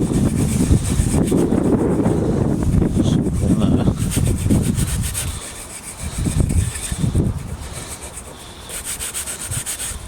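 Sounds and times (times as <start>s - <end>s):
rubbing on wood: 0.0s - 10.0s
wind buffeting microphone: 0.0s - 10.0s.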